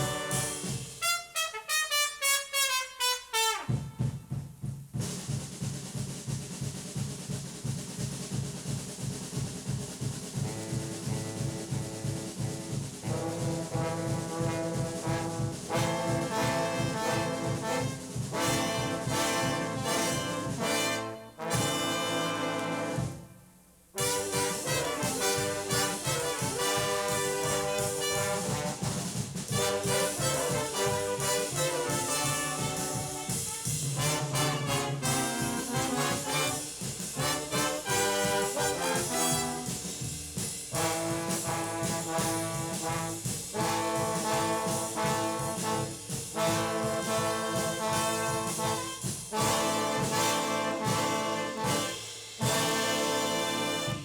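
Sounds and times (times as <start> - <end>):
big band jazz playing: 0.0 - 4.2, 8.7 - 23.2, 24.0 - 54.0
trombones and trumpets: 0.0 - 54.0.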